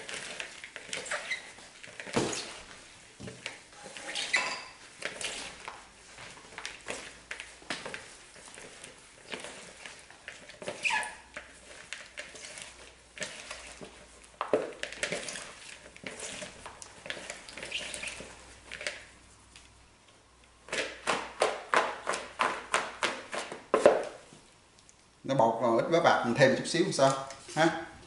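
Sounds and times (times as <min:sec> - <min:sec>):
hands mixing shrimp squelching: 0:00.0 - 0:25.2.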